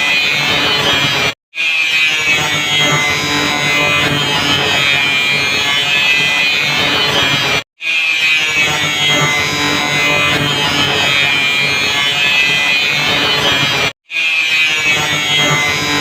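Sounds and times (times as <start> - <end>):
electric grinder whining: 0.0 - 16.0.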